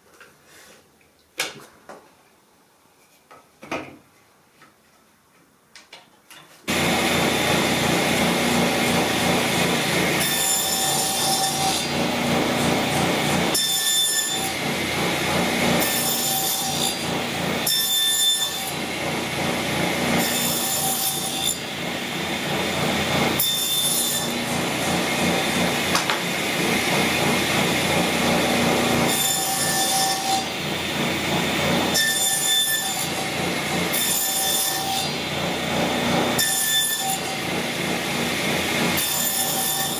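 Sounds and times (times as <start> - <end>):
table saw cutting wood: 6.7 - 39.9.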